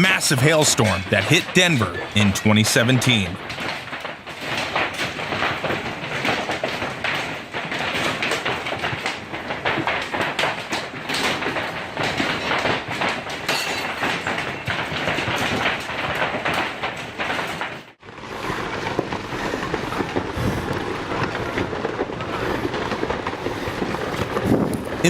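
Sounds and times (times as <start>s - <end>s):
hailstones pelting hard surfaces: 0.0s - 25.0s.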